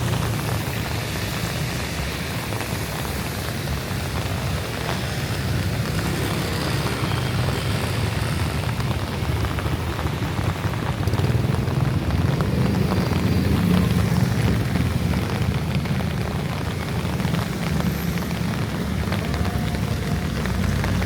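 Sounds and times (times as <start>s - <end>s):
heavy rain patter: 0.0s - 21.0s.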